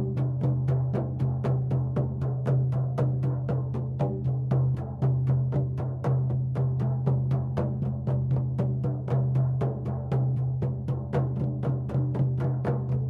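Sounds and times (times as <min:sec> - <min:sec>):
drum beaten steadily: 0:00.0 - 0:13.0.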